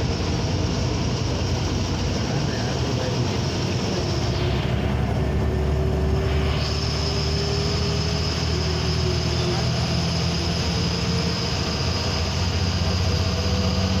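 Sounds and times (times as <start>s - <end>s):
bus diesel engine running: 0.0s - 14.0s
high steady whine: 0.0s - 14.0s.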